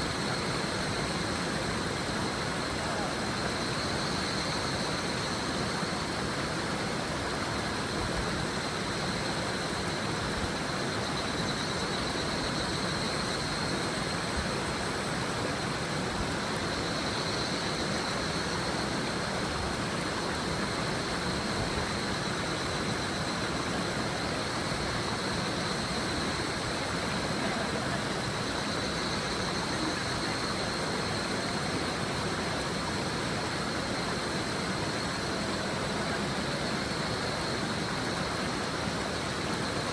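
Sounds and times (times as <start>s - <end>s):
cicadas calling: 0.0s - 39.9s
river murmuring: 0.0s - 39.9s.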